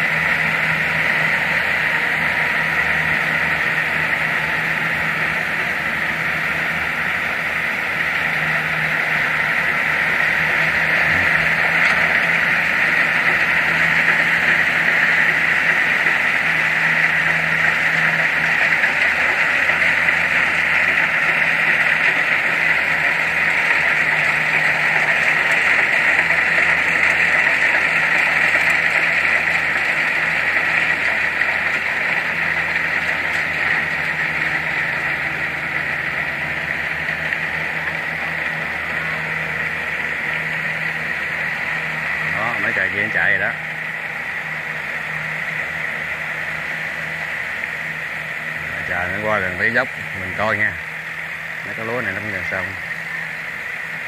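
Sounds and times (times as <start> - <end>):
diesel engine hum: 0.0 - 54.0.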